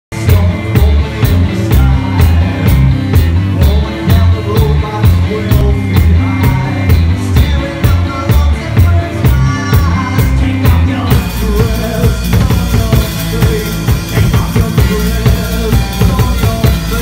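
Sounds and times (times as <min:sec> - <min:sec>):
drum kit beat: 0:00.1 - 0:17.0
man singing: 0:00.1 - 0:17.0.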